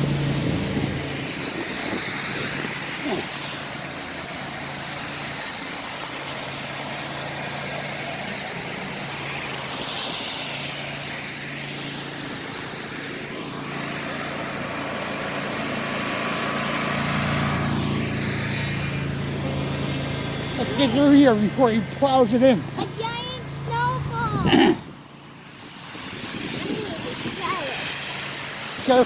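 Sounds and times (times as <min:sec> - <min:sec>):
blowing storm wind: 0:00.0 - 0:29.0
snow-clearing machine engine: 0:00.0 - 0:29.0.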